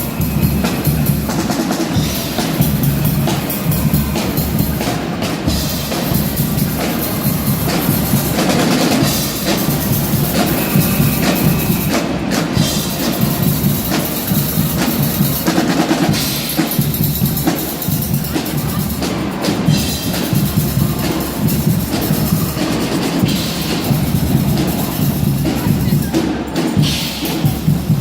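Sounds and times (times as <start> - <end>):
carnival brass band playing: 0.0 - 28.0.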